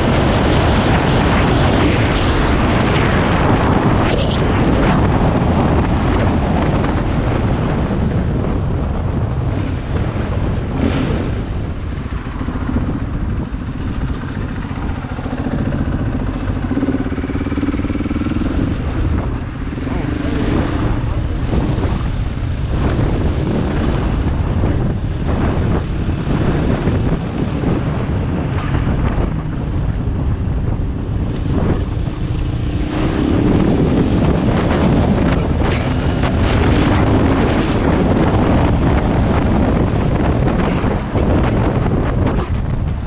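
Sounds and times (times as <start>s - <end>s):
motorcycle engine running: 0.0s - 43.0s
wind buffeting microphone: 0.0s - 43.0s.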